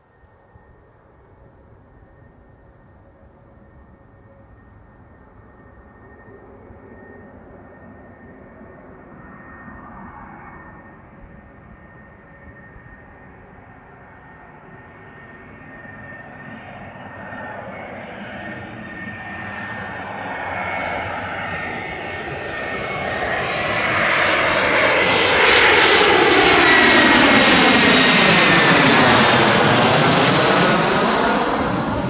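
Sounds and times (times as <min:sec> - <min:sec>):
jet airliner landing: 0:00.4 - 0:32.0.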